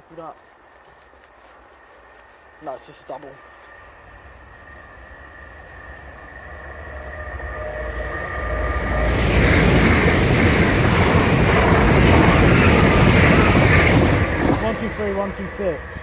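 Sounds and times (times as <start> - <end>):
faint steady whining tones: 0.0 - 16.0
train passing at speed: 1.4 - 16.0.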